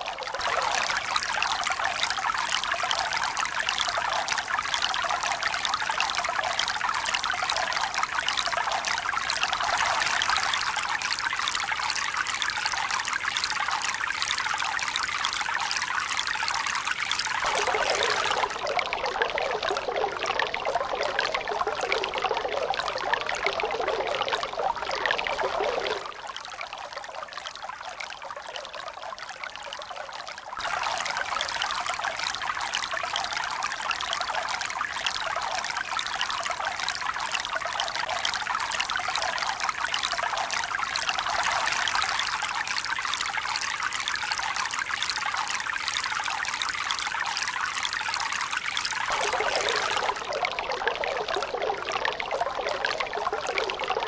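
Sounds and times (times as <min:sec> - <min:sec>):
running water pouring and trickling: 0:00.0 - 0:54.0.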